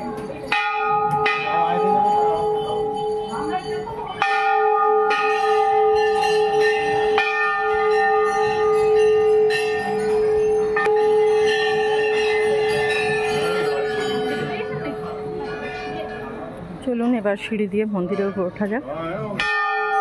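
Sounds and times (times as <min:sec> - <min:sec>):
temple bell ringing: 0:00.0 - 0:20.0.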